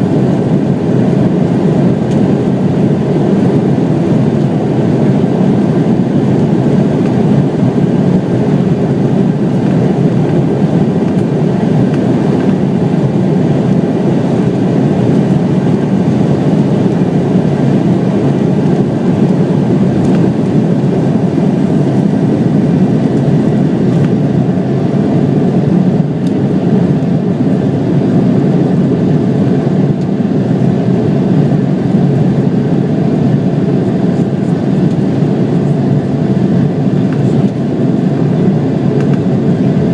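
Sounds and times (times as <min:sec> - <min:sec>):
airliner jet engines rumbling: 0:00.0 - 0:39.9.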